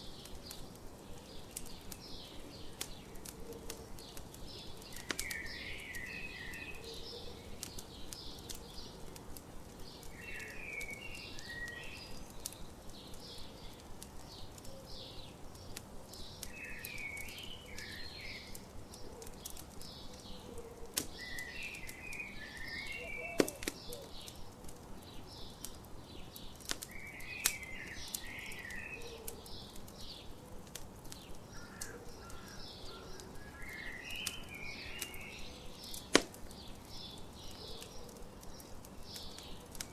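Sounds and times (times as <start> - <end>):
campfire crackling and popping: 0.0 - 39.9
songbird chirping: 0.0 - 39.9.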